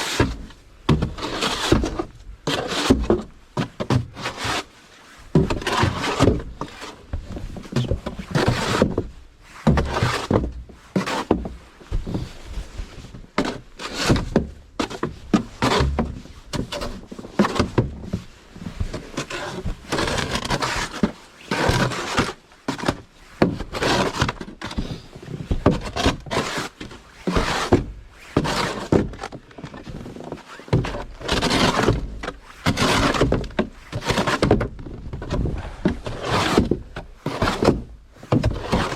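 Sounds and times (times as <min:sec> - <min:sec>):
snow shovel scraping and knocking: 0:00.0 - 0:38.9.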